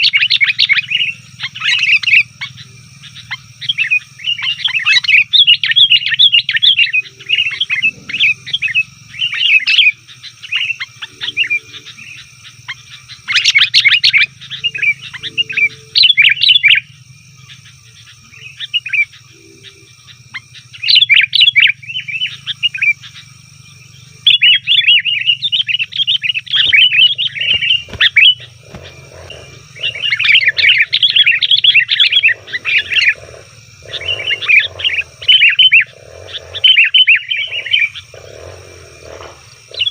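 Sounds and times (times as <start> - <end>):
birds chattering chirps: 0.0 - 39.9
low-pitched pulsing bird calls: 0.0 - 39.9
steady low hum: 0.0 - 39.9.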